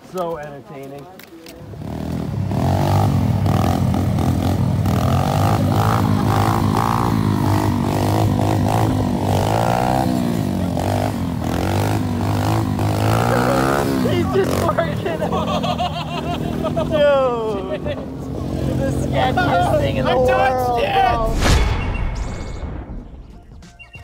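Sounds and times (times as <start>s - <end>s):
pit bike engine revving: 1.7s - 21.2s.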